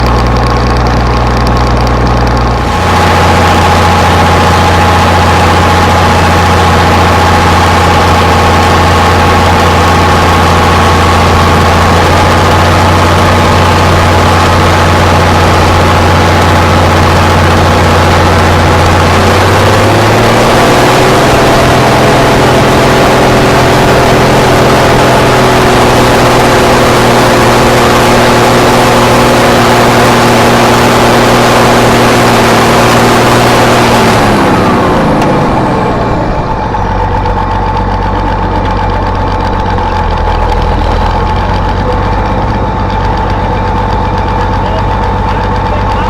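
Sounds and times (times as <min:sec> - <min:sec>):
tractor engine running loud: 0:00.0 - 0:46.0.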